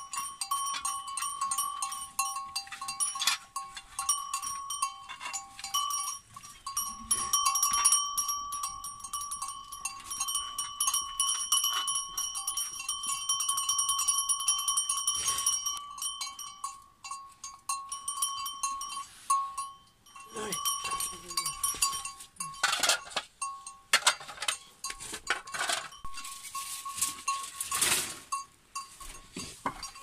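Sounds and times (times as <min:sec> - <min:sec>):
small metal collar bell jangling: 0:00.0 - 0:30.0.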